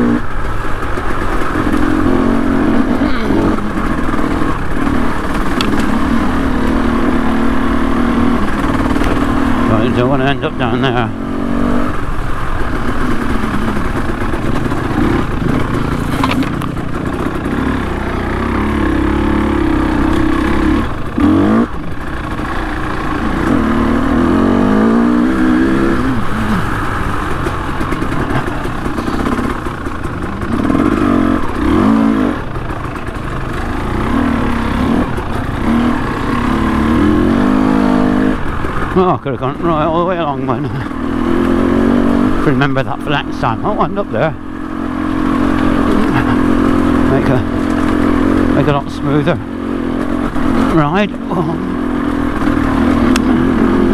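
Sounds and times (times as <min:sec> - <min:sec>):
motorcycle engine revving: 0:00.0 - 0:53.9
motorcycle knocks and rattles: 0:00.0 - 0:53.9.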